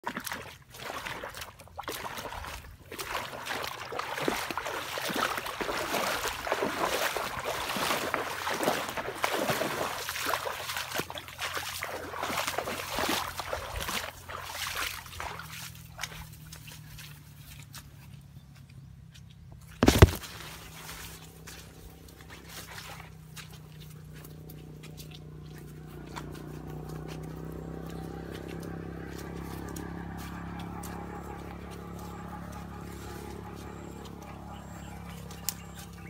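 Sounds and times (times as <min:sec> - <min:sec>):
person wading through water: 0:00.0 - 0:36.0.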